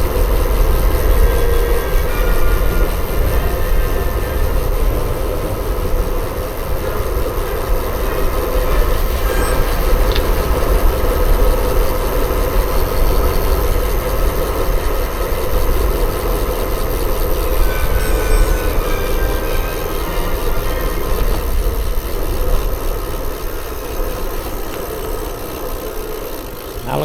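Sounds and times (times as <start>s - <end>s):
bicycle tyre and road noise: 0.0s - 27.0s.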